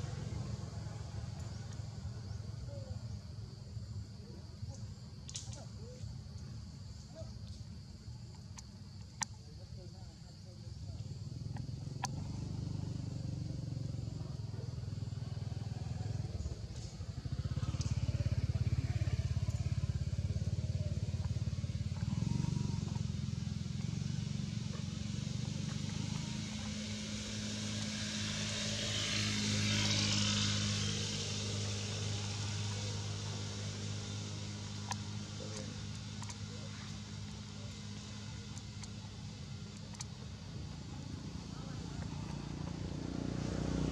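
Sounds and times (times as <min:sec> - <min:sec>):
motor engine running: 0:00.0 - 0:43.9.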